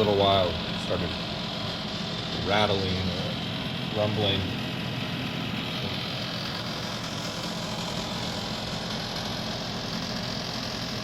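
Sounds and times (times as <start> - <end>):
convection fan humming: 0.0 - 11.0.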